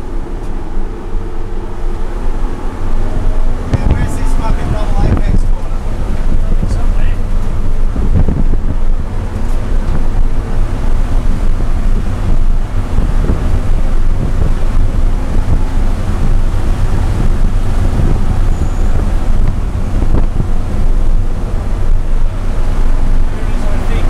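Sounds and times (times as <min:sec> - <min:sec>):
car engine revving under load: 0:00.0 - 0:24.0
wind and road noise: 0:00.0 - 0:24.0.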